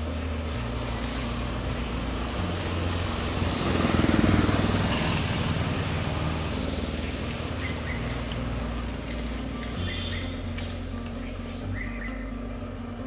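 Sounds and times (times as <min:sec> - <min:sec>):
low sustained tones: 0:00.0 - 0:13.0
steady rushing noise: 0:00.0 - 0:13.0.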